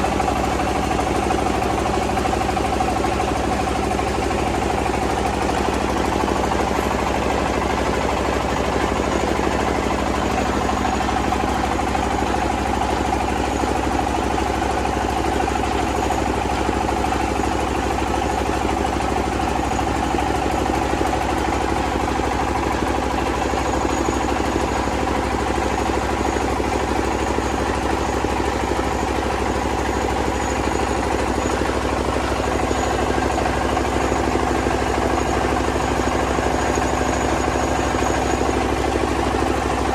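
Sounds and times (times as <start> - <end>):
rice milling machine running: 0.0 - 39.9.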